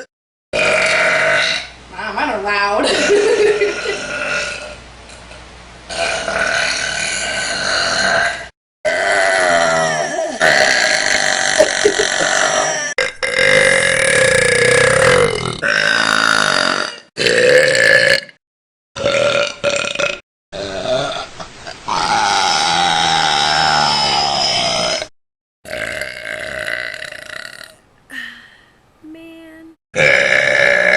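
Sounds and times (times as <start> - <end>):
long loud burps: 0.0 - 1.7, 2.8 - 4.8, 5.9 - 18.4, 19.0 - 27.8, 30.0 - 30.9.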